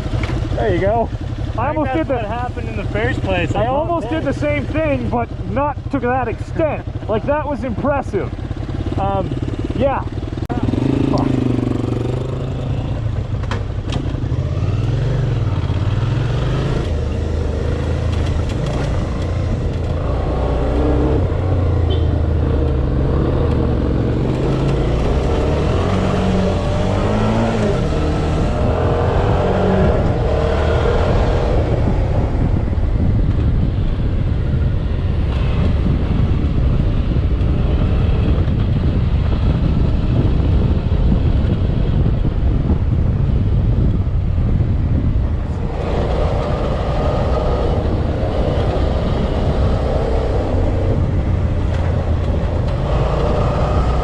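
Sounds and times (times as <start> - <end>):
motorcycle engine revving: 0.0 - 54.0
wind buffeting microphone: 0.0 - 54.0.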